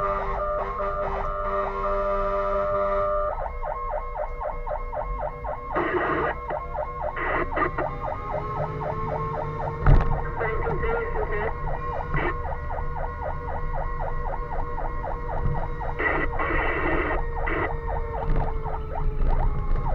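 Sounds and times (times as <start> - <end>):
fire engine siren yelping: 0.0 - 19.9
steady blaring siren tone: 0.0 - 19.9.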